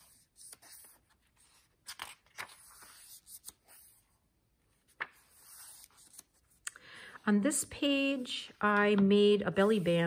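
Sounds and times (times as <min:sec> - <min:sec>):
paper pages rustling: 0:00.0 - 0:06.6, 0:08.5 - 0:10.0.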